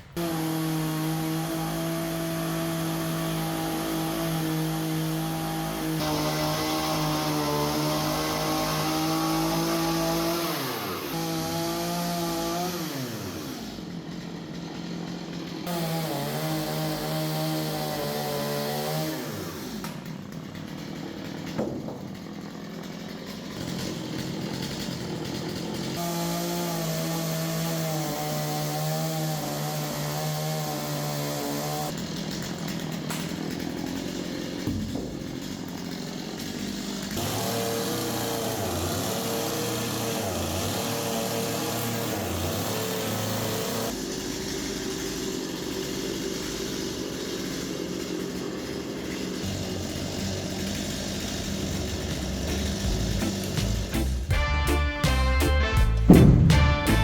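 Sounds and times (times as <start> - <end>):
chainsaw revving: 0.0 - 54.8, 55.4 - 57.0.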